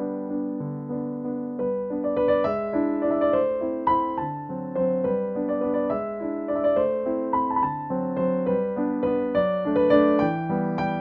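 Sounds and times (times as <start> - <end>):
electric piano melody: 0.0 - 11.0.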